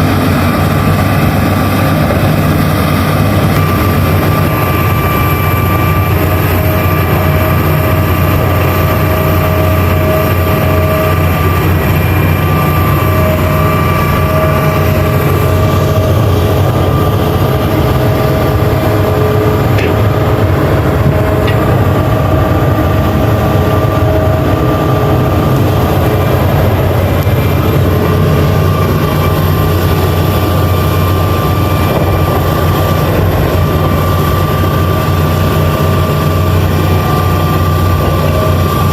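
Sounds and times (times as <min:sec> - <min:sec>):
diesel engine running under load: 0:00.0 - 0:38.9
high whine: 0:00.0 - 0:38.9.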